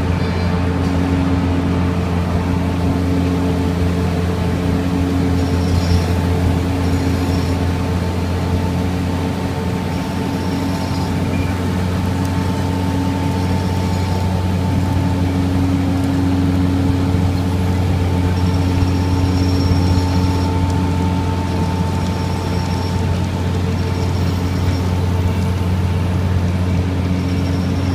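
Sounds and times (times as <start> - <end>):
diesel engine running steadily: 0.0 - 27.9
faint high whine: 0.0 - 27.9.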